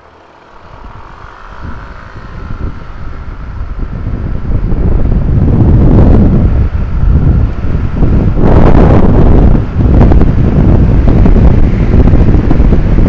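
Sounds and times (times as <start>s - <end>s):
scooter engine accelerating: 0.0s - 13.0s
wind on microphone: 0.0s - 13.0s.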